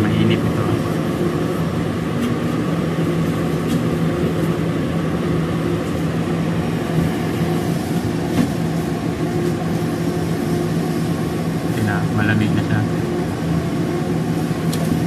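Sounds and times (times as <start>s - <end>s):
freezer unit humming: 0.0s - 15.0s.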